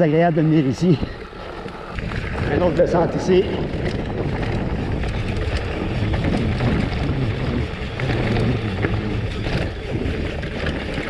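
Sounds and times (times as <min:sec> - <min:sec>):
bike rattles and clicks: 0:00.0 - 0:11.0
wind on microphone: 0:00.0 - 0:11.0
tyre rumble: 0:02.0 - 0:11.0.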